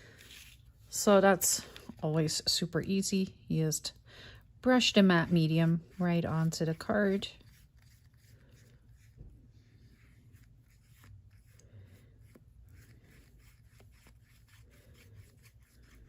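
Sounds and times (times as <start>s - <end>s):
paintbrush strokes on card: 0.1s - 2.5s, 4.7s - 16.0s.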